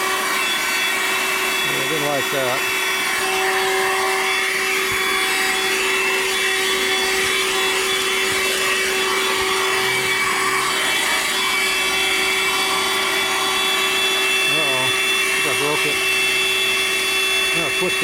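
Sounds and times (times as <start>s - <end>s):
handheld vacuum cleaner running: 0.0s - 18.0s.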